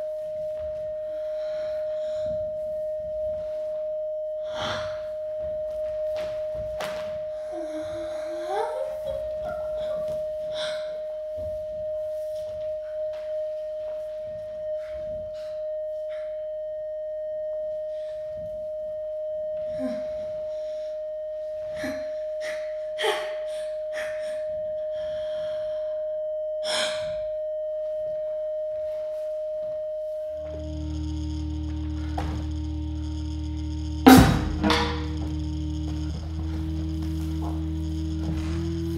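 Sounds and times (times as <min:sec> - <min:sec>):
steady high tone: 0:00.0 - 0:38.9.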